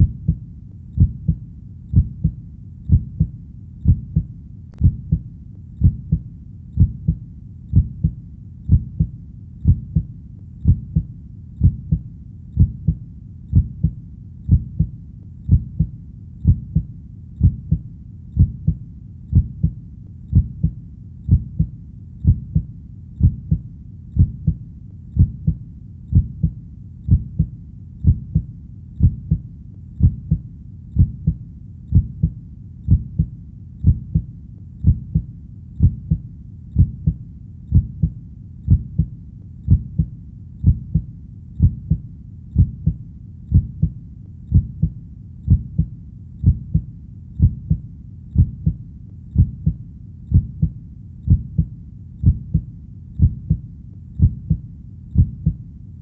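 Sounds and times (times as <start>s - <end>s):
heartbeat thumps: 0.0s - 0.4s, 1.0s - 29.4s, 30.0s - 55.6s.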